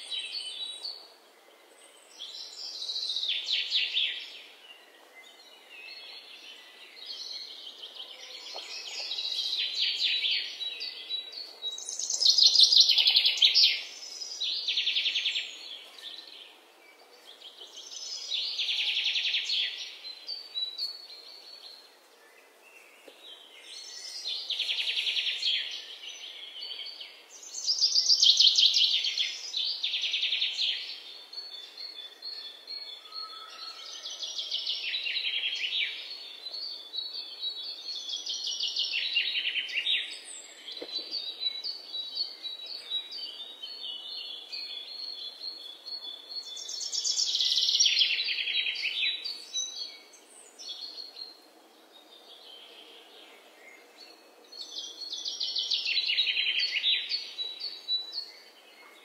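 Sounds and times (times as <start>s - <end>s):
faint bird chirps: 0.0s - 59.0s.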